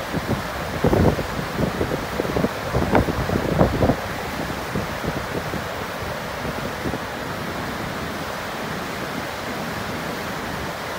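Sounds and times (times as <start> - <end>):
water rushing down a stone spillway: 0.0 - 10.9.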